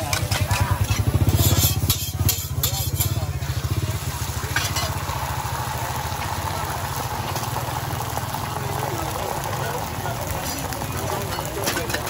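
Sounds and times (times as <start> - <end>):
small engine idling: 0.0 - 11.7.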